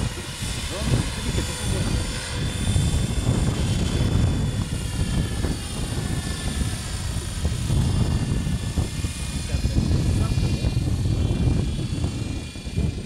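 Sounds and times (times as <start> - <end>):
model helicopter rotor whine: 0.0 - 13.0
steady low rumble: 0.0 - 13.0.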